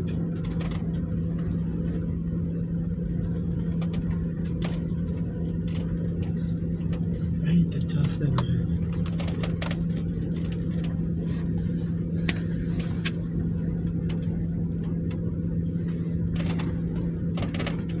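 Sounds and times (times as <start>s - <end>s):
light clicks and rattles: 0.0s - 18.0s
vehicle engine rumbling: 0.0s - 18.0s.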